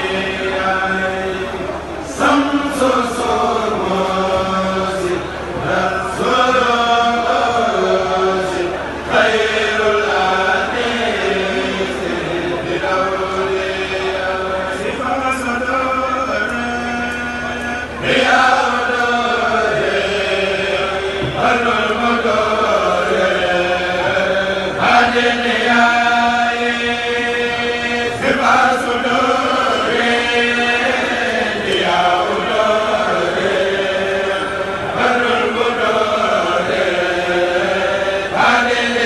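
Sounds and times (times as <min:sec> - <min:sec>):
men chanting into microphones: 0:00.0 - 0:39.0.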